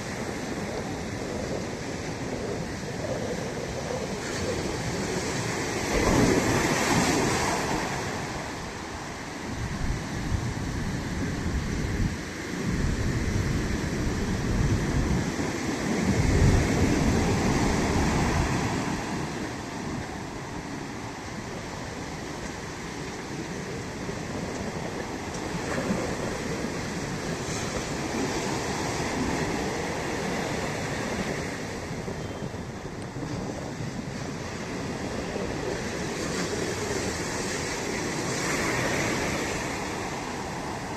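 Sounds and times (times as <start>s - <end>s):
ocean surf washing onto beach: 0.0s - 40.9s
wind buffeting microphone: 0.0s - 40.9s.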